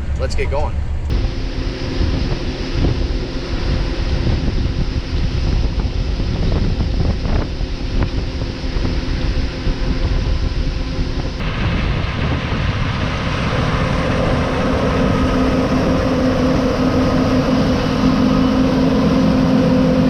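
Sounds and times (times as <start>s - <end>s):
wind buffeting microphone: 0.0s - 20.0s
harvest machinery engine running: 0.9s - 20.0s.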